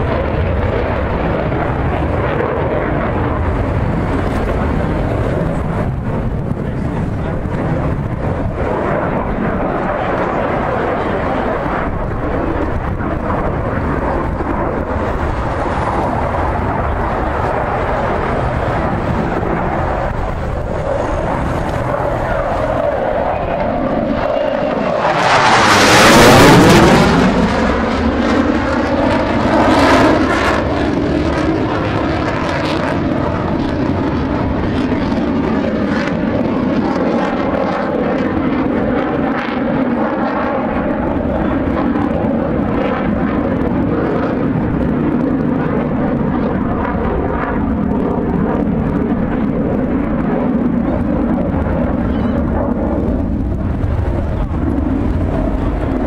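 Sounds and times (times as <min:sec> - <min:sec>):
fighter jet passing overhead: 0:00.0 - 0:56.0.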